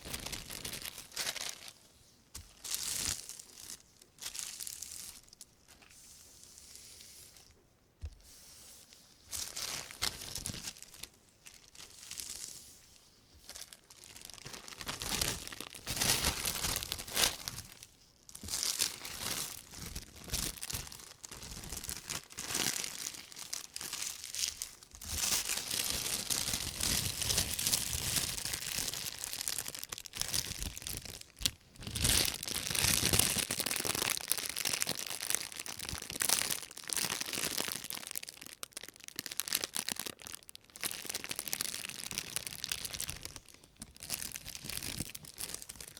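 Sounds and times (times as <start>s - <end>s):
plastic bag rustling: 0.0s - 1.8s, 8.8s - 45.9s.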